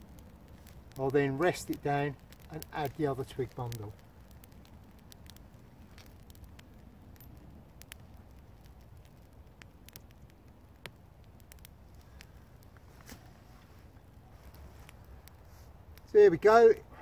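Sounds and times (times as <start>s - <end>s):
twigs crackling in fire: 0.0s - 17.0s.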